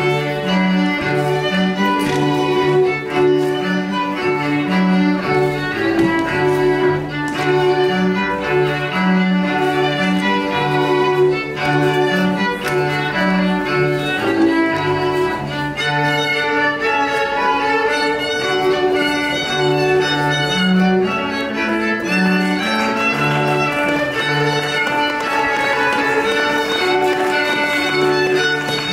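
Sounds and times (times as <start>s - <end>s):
string-led country dance music: 0.0s - 28.9s.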